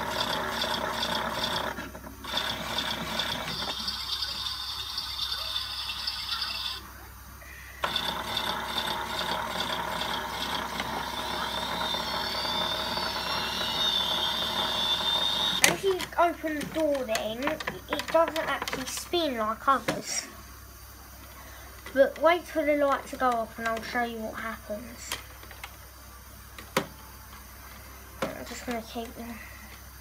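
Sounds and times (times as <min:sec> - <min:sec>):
toy washing machine whirring: 0:00.0 - 0:20.3, 0:21.7 - 0:25.9.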